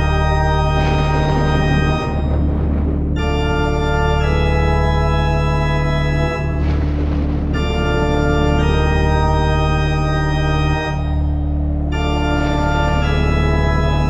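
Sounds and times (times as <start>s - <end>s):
electronic organ chords: 0.0s - 6.9s, 7.5s - 14.0s
low bass note: 0.0s - 14.0s.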